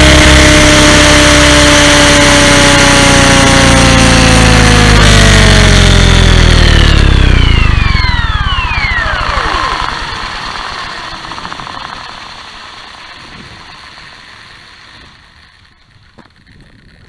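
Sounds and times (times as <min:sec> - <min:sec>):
model helicopter motor winding down: 0:00.0 - 0:17.0.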